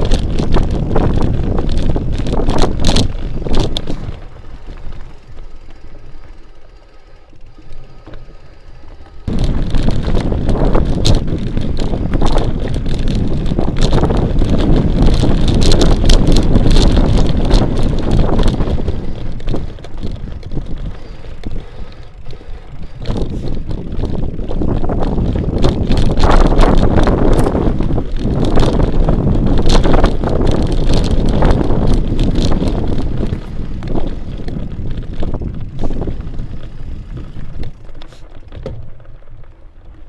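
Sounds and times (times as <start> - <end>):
wind buffeting microphone: 0.0 - 6.4, 9.2 - 40.0
tyres crunching on dirt trail: 0.0 - 40.0.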